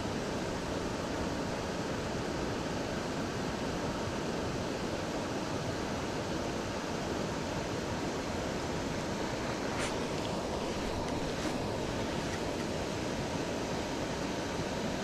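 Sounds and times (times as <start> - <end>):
waterfall and river rushing: 0.1 - 15.0.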